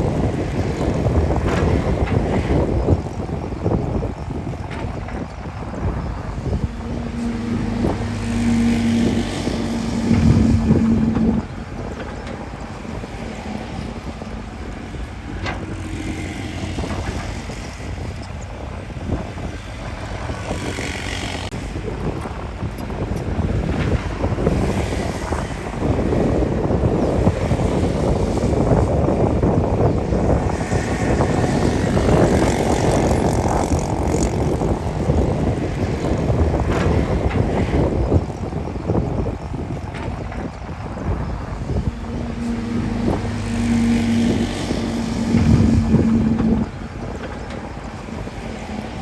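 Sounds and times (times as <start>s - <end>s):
heavy machinery diesel engine: 0.0s - 49.0s.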